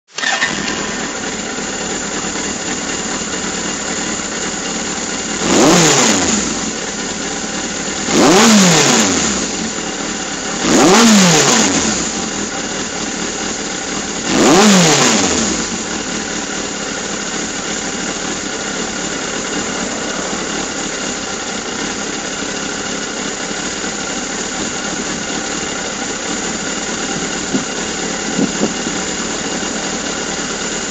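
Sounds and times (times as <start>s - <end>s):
motorcycle engine idling and revving: 0.1s - 30.9s.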